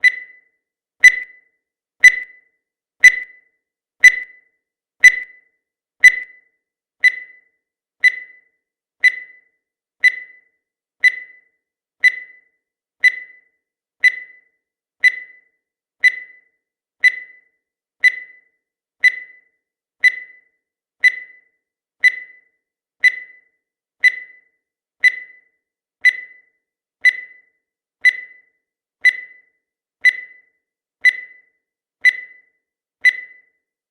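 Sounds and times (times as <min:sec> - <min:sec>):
high electronic timer beeps: 0:00.0 - 0:01.4, 0:02.0 - 0:02.4, 0:03.0 - 0:03.4, 0:04.0 - 0:04.4, 0:05.0 - 0:33.7.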